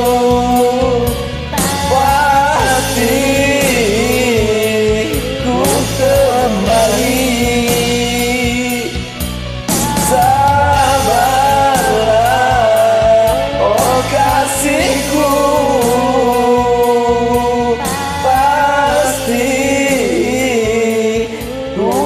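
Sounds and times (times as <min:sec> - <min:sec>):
pop song with sung melody: 0:00.0 - 0:22.0.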